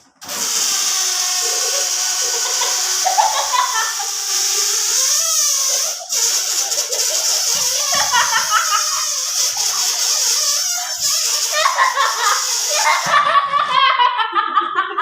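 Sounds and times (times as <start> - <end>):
air hissing from balloon: 0.0 - 14.2.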